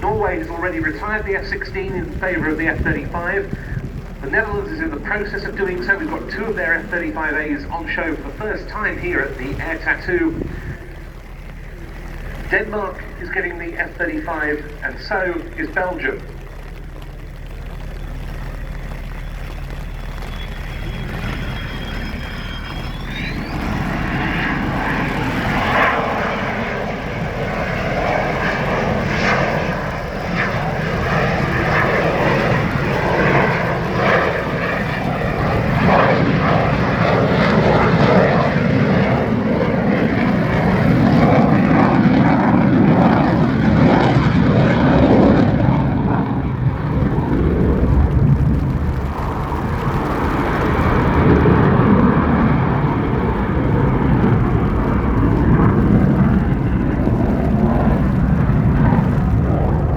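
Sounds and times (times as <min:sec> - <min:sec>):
fighter jet engine roar: 0:00.0 - 0:59.9.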